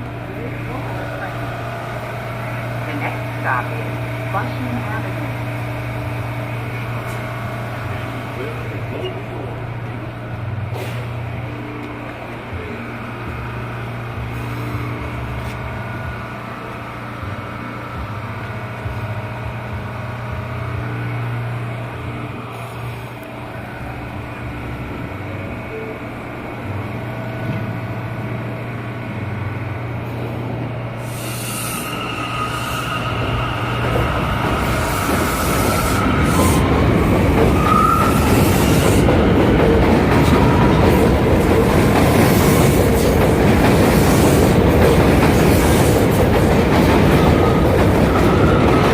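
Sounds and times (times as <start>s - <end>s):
low hum inside subway car: 0.0s - 48.9s
wheel and rail noise: 0.0s - 48.9s.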